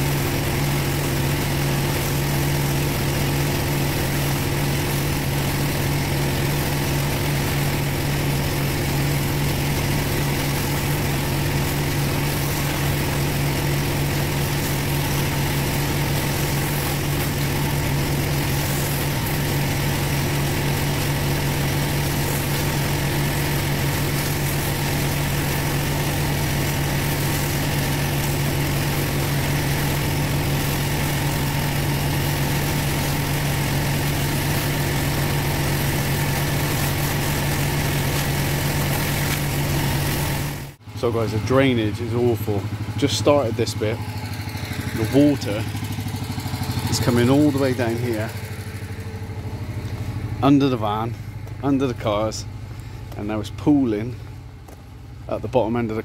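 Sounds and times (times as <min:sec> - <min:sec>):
water jets hissing on paving: 0:00.0 - 0:40.8, 0:43.2 - 0:56.0
pressure washer engine humming: 0:00.0 - 0:56.0.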